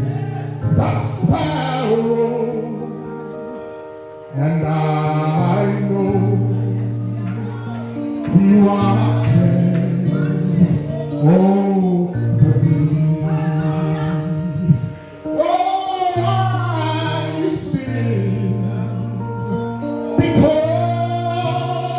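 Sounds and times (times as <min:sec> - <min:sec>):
gospel singing with instruments: 0:00.0 - 0:21.9.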